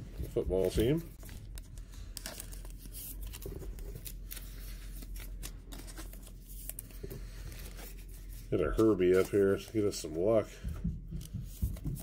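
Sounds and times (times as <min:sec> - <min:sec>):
plastic card sleeve rustling: 0:00.0 - 0:10.5.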